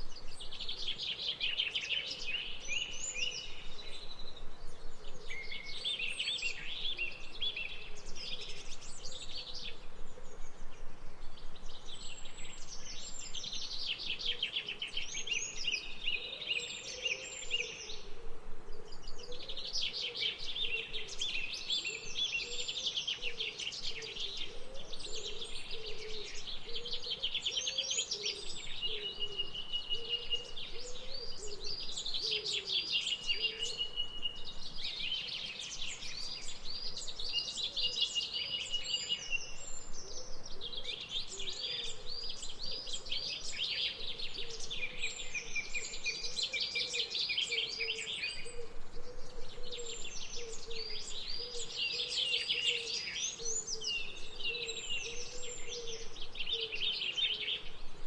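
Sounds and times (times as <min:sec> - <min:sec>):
birds chirping and singing: 0:00.0 - 0:18.2, 0:18.8 - 0:58.0.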